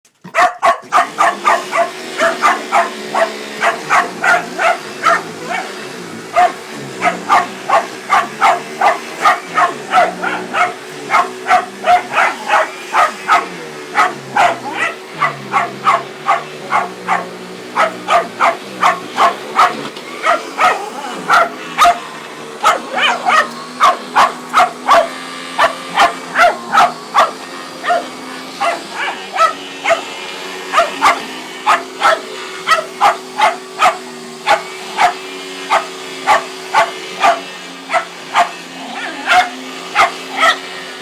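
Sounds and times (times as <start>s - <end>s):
dog barking: 0.2s - 40.9s
vacuum cleaner humming: 0.7s - 41.0s.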